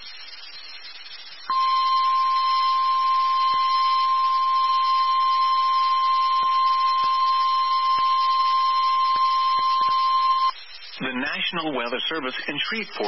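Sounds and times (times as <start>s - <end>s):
steady alarm tone: 0.0s - 10.9s.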